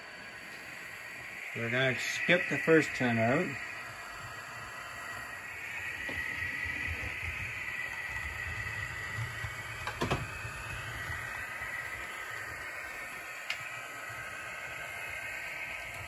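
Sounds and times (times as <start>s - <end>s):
model train motor whining: 0.0s - 16.0s.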